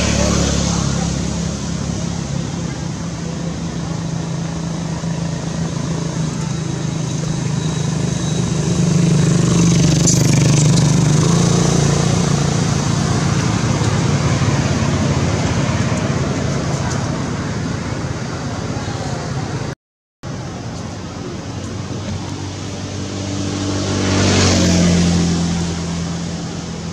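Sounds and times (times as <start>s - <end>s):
vehicle engine hum: 0.0s - 26.9s.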